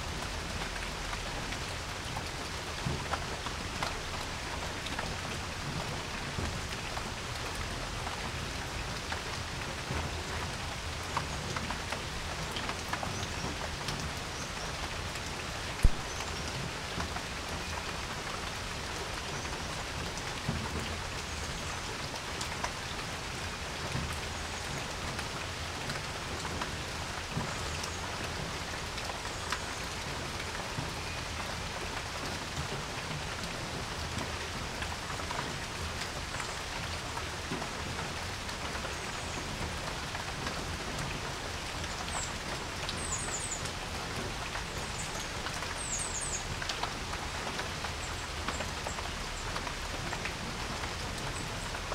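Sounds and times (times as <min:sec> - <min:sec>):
rain hissing on porch: 0:00.0 - 0:51.9.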